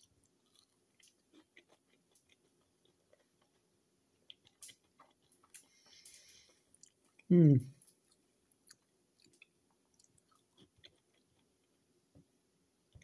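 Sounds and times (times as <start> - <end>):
faint chewing: 0.0 - 11.8.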